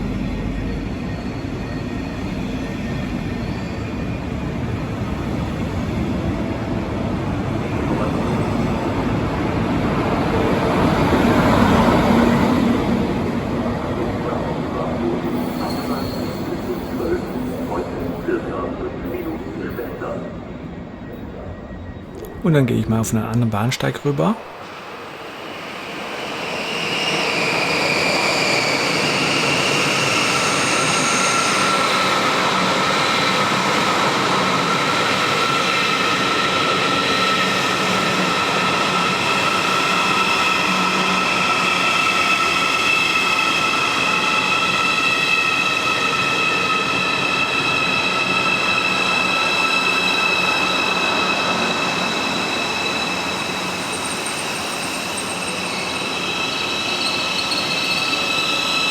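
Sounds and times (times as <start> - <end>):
train running through station: 0.0 - 58.9.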